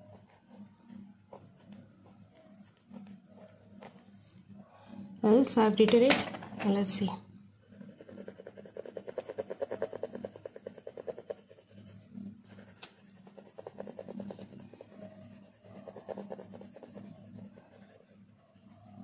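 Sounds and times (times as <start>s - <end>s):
pencil scribbling on paper: 0.0s - 4.1s, 7.6s - 19.0s.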